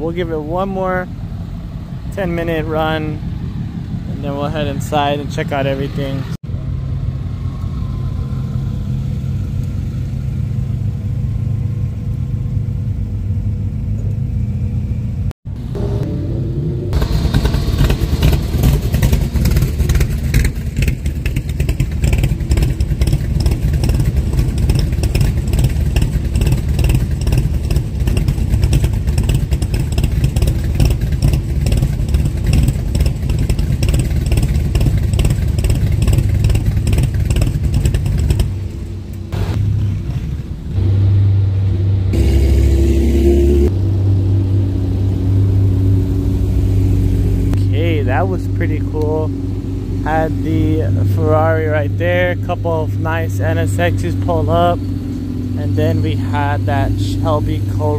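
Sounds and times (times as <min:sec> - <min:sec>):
car engines idling: 0:00.0 - 0:57.9
loud choppy engine rumble: 0:00.0 - 0:57.9.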